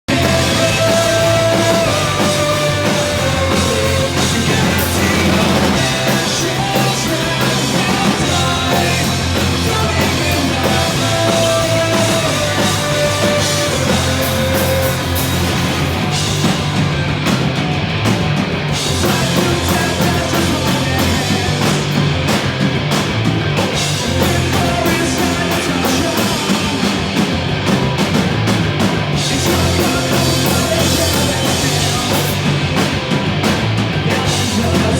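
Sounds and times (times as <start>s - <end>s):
live rock band playing: 0.1s - 34.9s.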